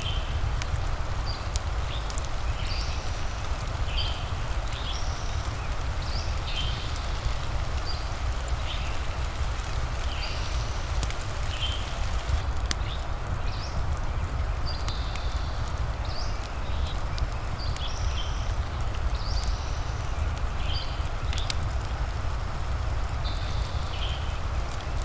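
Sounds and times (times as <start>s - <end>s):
sharp crackles: 0.0s - 25.0s
steady rain: 0.0s - 25.0s.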